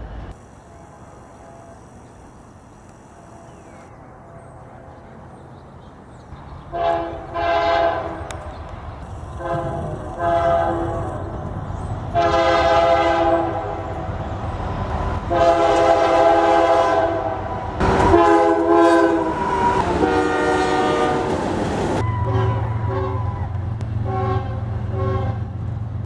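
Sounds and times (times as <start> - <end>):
locomotive air horn blasts: 0.0 - 5.4, 6.4 - 25.6
moving train rumble: 0.0 - 26.0.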